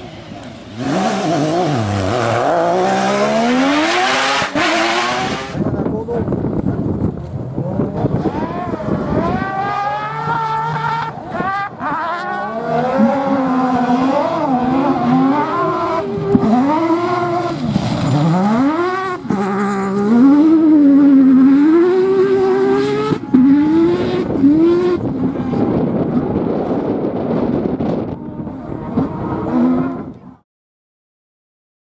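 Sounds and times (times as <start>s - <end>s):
rally car engine revving: 0.0s - 30.4s.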